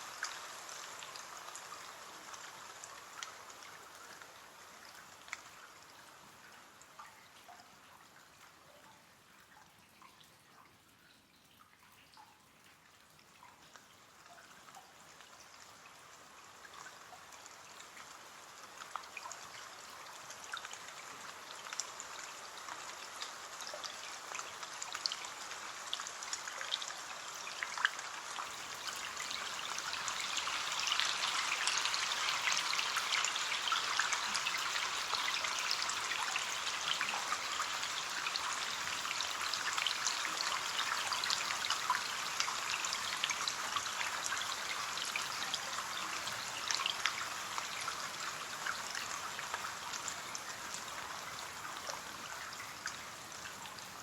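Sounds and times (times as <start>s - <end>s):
rain on a window: 0.0s - 54.0s.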